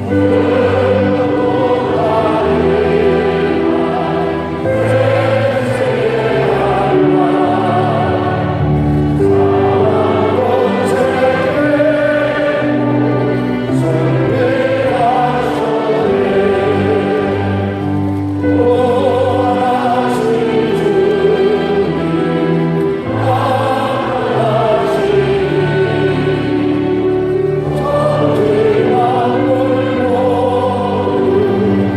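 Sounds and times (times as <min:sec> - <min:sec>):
congregation singing a hymn: 0:00.0 - 0:31.9.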